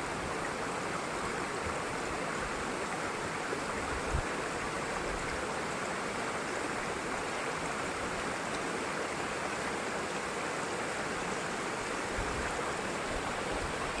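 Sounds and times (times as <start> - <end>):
waterfall rushing water: 0.0 - 14.0.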